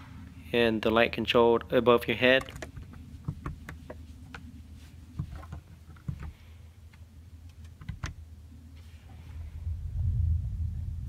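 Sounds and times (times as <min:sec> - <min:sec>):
low cabin hum: 0:00.0 - 0:11.0.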